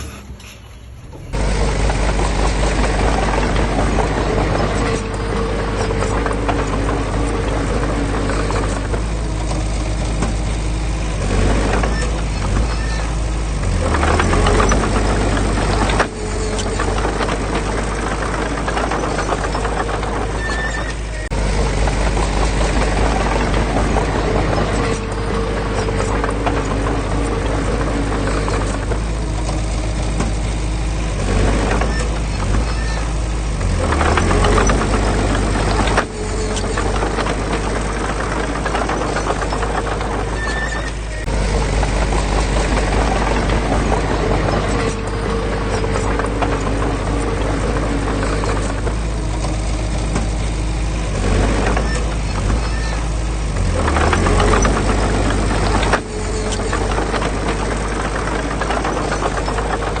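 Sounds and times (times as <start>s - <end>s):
clattering and clanking: 0.0s - 60.0s
heavy machinery diesel engine: 0.0s - 60.0s.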